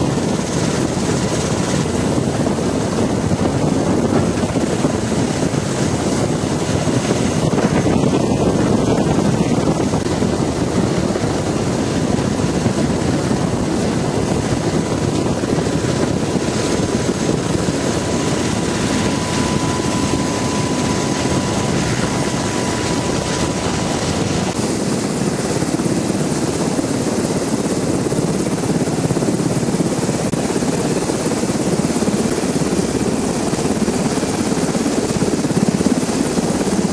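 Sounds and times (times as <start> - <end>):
helicopter rotor and engine: 0.0 - 36.9
faint steady whine: 3.9 - 36.8.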